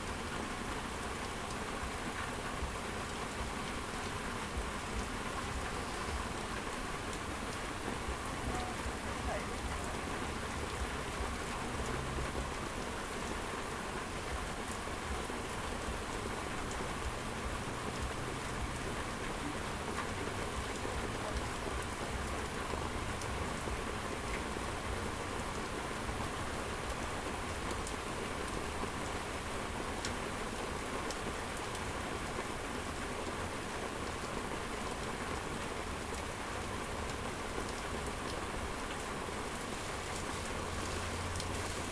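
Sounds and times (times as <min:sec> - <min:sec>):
heavy rain pouring: 0:00.0 - 0:41.9
raindrop ticks: 0:00.1 - 0:41.9.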